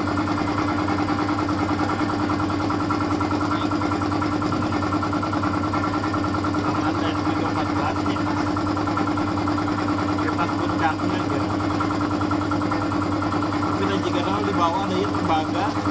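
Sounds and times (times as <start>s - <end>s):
compressor running: 0.0s - 15.9s.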